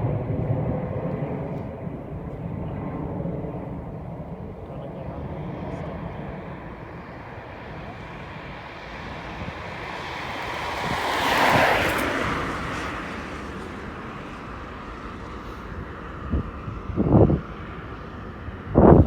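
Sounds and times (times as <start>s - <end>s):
jet airliner passing: 0.0s - 19.0s.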